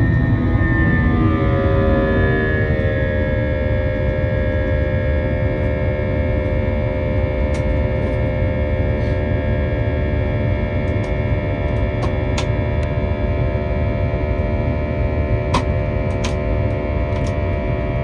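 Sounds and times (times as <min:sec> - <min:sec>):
jet engine rumble and whine: 0:00.0 - 0:18.0.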